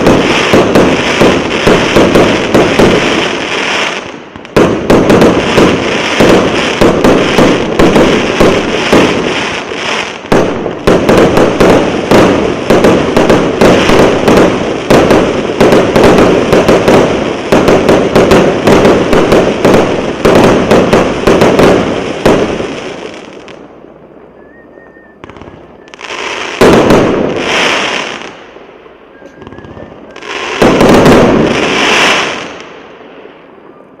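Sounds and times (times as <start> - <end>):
firework battery firing: 0.0 - 23.3, 25.2 - 28.4, 29.2 - 32.7
firework volleys with crackling tail: 0.0 - 34.0.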